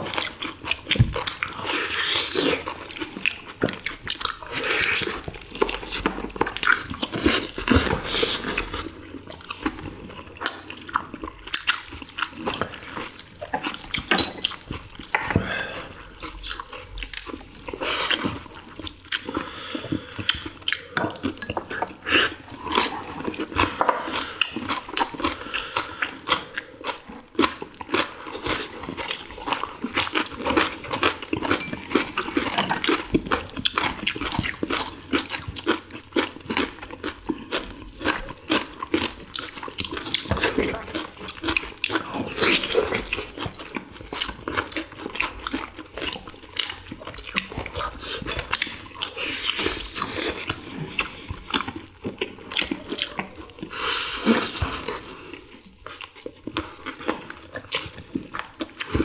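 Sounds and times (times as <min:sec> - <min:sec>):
people chewing with wet smacking: 0:00.0 - 0:59.0.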